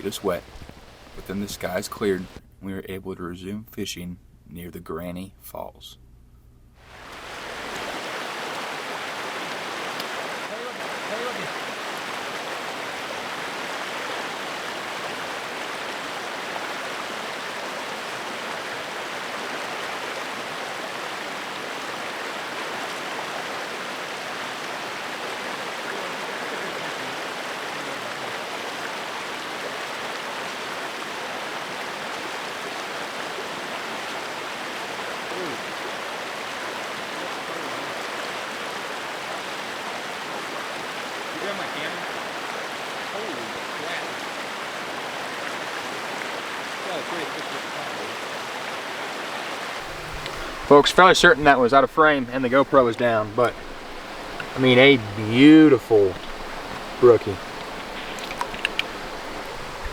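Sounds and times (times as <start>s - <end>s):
waterfall and creek rushing: 0.0s - 2.4s, 6.9s - 59.9s.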